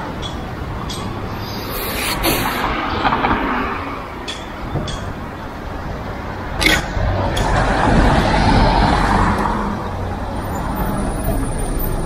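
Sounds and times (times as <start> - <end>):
vehicle passing close: 1.1 - 12.0.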